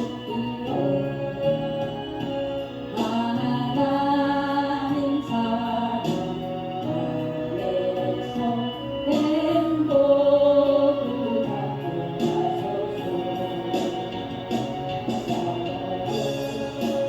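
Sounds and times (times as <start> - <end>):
voices singing gospel song: 0.0 - 17.0.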